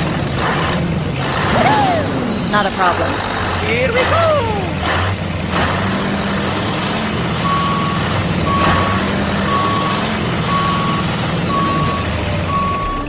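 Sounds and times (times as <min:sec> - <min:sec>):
engine rumble: 0:00.0 - 0:13.0
truck reversing alarm beeping: 0:01.2 - 0:13.0.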